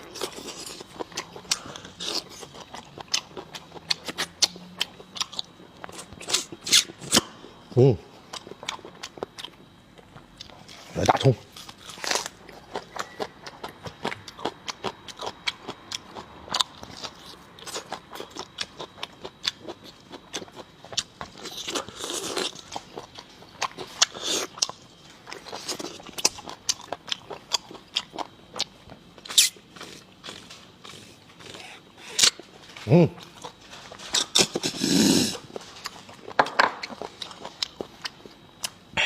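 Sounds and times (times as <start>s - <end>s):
close chewing with mouth clicks: 0.0s - 7.3s, 8.2s - 32.6s, 33.2s - 38.9s.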